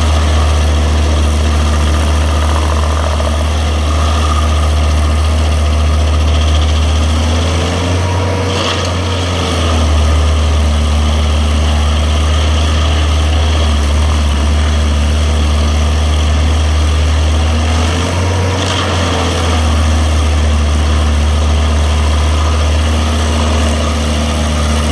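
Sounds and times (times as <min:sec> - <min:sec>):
engine-driven grinder running: 0:00.0 - 0:24.9.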